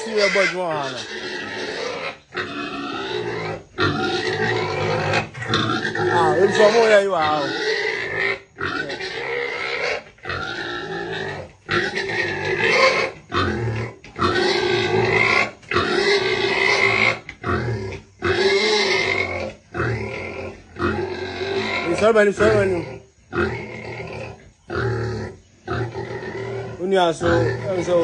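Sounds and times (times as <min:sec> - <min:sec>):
pigs calling loudly: 0:00.0 - 0:28.0.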